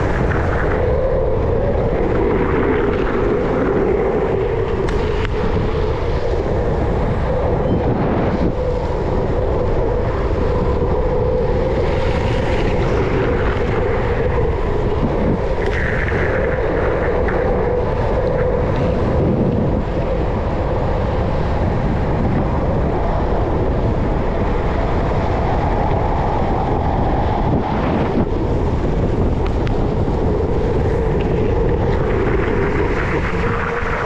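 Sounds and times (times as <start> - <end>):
skateboard wheels rolling on concrete: 0.0 - 34.0
wind rushing over microphone: 0.0 - 34.0.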